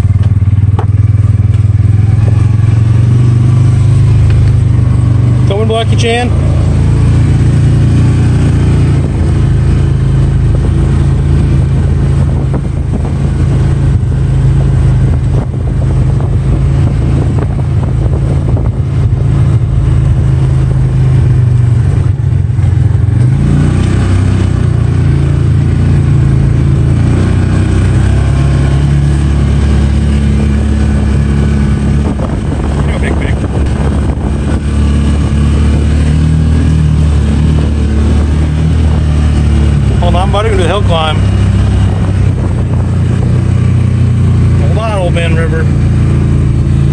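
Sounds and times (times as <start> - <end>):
utility vehicle engine running: 0.0 - 46.9.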